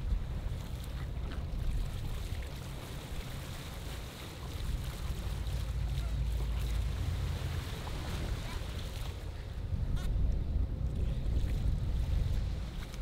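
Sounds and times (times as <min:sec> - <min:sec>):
boat engine rumbling: 0:00.0 - 0:13.0
water rushing along hull: 0:00.0 - 0:13.0
wind buffeting microphone: 0:00.0 - 0:13.0.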